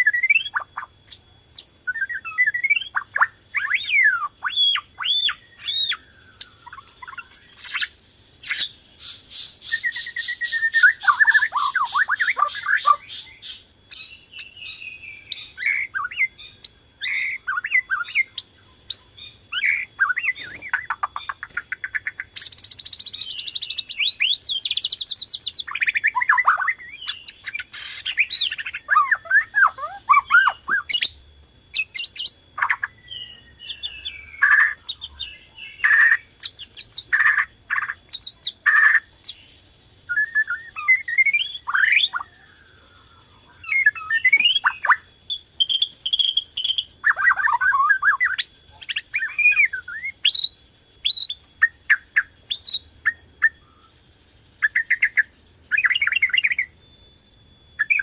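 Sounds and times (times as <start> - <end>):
songbird whistles and trills: 0.0 - 58.0.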